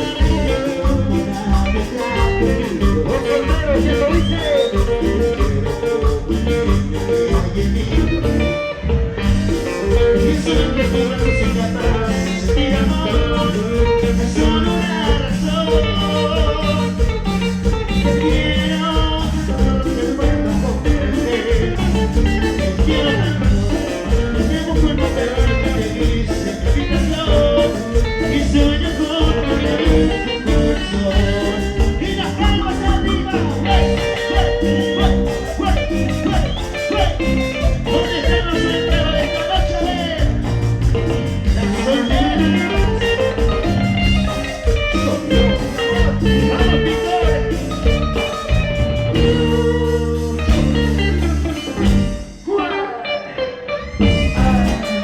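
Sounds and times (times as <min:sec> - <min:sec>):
live latin dance band music: 0:00.0 - 0:55.0.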